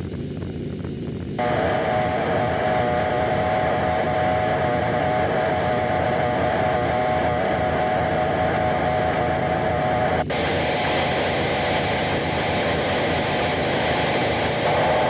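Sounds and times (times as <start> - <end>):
distorted noise wall: 0.0 - 15.0
steady droning tone: 0.0 - 15.0.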